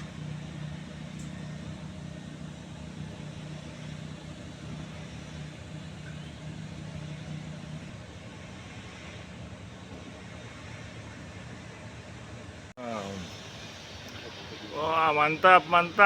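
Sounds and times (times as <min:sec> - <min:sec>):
large engine droning: 0:00.0 - 0:16.0.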